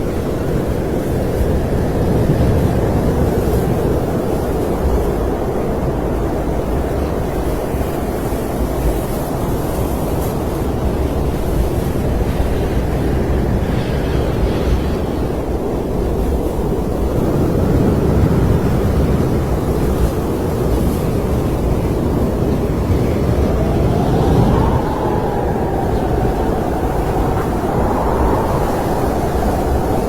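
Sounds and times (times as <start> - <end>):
snowstorm wind blowing: 0.0 - 30.0.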